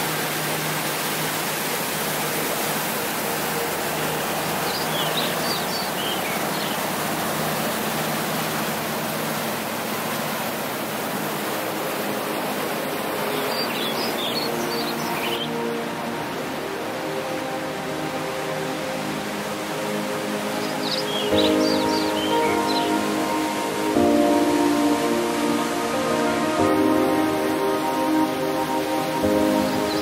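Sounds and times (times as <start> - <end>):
creek rushing over boulders: 0.0 - 30.0.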